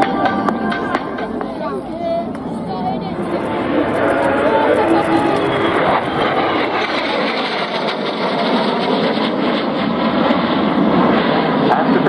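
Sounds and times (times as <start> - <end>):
jet fighter flying past: 0.0 - 12.0.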